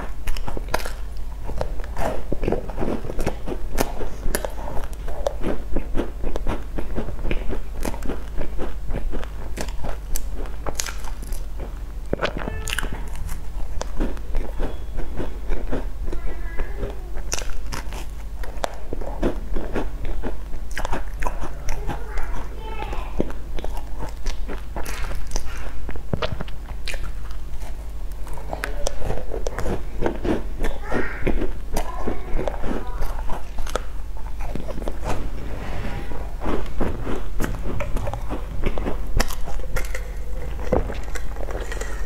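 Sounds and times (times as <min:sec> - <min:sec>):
crunchy chewing of bun: 0:00.0 - 0:35.2, 0:37.2 - 0:42.0
steady low hum: 0:00.0 - 0:42.0.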